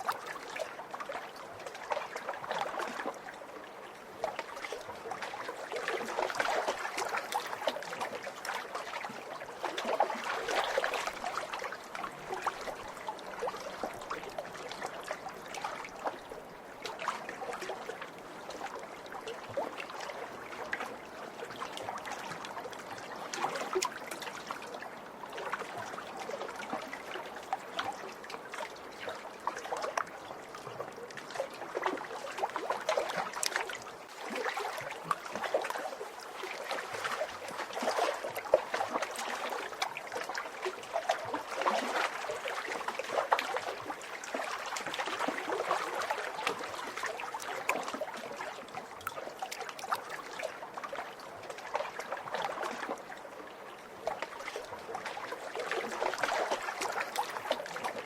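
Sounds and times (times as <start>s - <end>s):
lake waves splashing and lapping: 0.0s - 58.0s.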